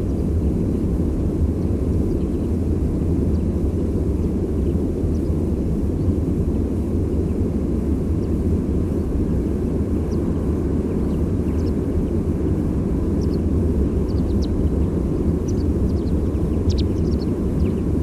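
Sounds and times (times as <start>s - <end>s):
distant sea surf rumbling: 0.0s - 18.0s
songbird call notes: 1.5s - 6.2s, 8.1s - 18.0s.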